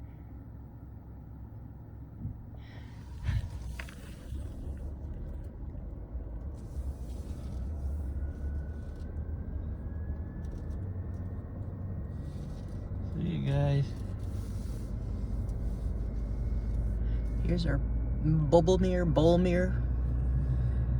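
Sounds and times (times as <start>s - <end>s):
car rumble from inside cabin: 0.0s - 20.9s
faint whine: 0.0s - 20.9s.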